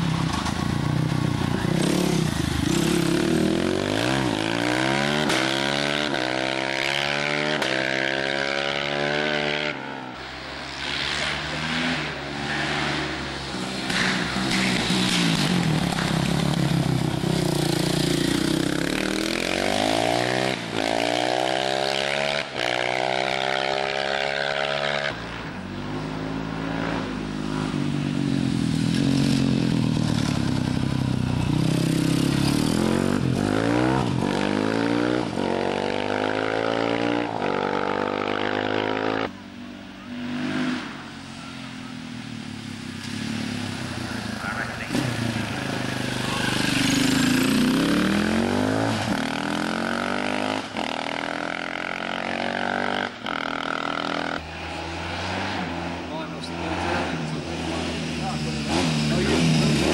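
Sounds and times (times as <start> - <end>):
racing motorcycles accelerating: 0.0 - 59.9.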